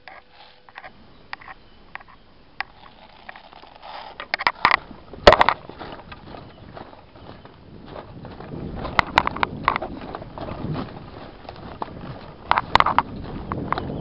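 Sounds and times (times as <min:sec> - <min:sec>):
twigs and leaves crackling: 0:00.0 - 0:14.0.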